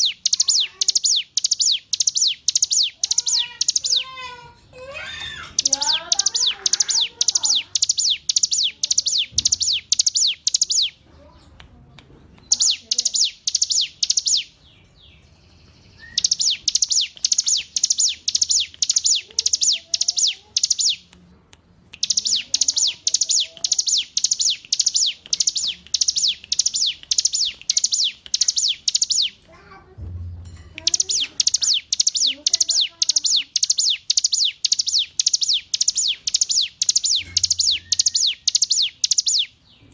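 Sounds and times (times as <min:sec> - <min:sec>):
bird singing high repeated notes: 0:00.0 - 0:04.2, 0:05.1 - 0:11.0, 0:12.4 - 0:21.1, 0:22.0 - 0:29.4, 0:30.5 - 0:39.9.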